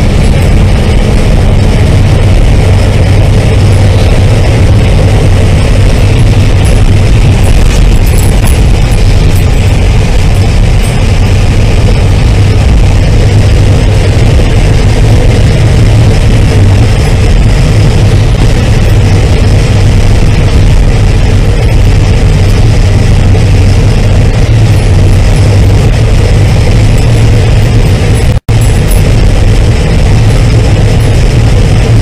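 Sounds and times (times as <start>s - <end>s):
tyre and engine drone: 0.0s - 32.0s
wind howling and whistling: 0.0s - 32.0s.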